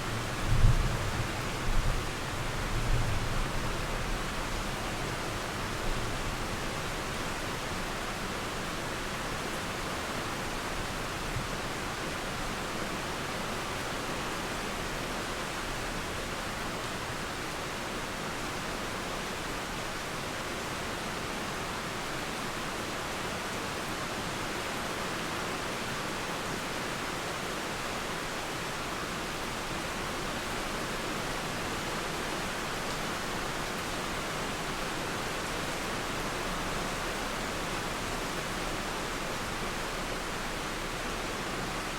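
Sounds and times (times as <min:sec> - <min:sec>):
steady rain: 0:00.0 - 0:41.9
river flowing: 0:03.4 - 0:41.9.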